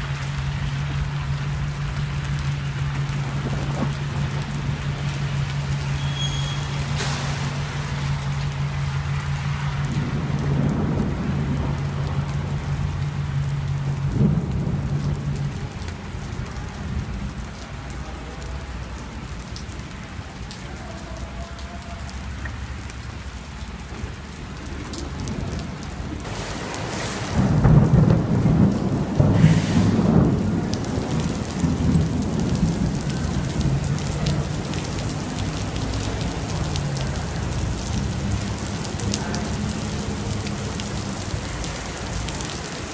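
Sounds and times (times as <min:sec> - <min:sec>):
thunderclap rumbling: 0:00.0 - 0:06.0, 0:06.6 - 0:18.4, 0:23.8 - 0:42.9
heavy rain: 0:00.0 - 0:42.9.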